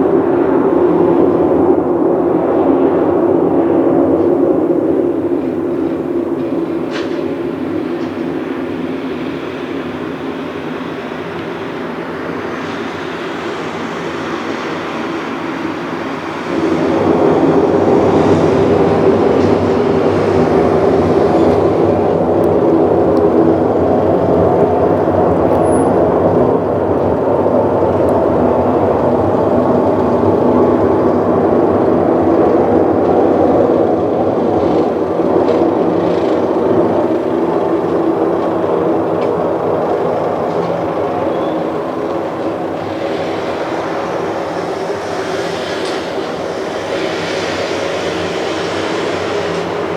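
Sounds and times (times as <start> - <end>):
continuous rumbling roar: 0.0 - 49.9.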